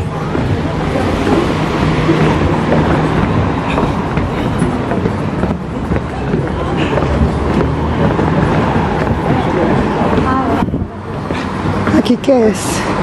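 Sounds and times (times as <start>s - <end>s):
wind buffeting microphone: 0.0s - 12.0s
footsteps on wooden stairs: 0.0s - 12.3s.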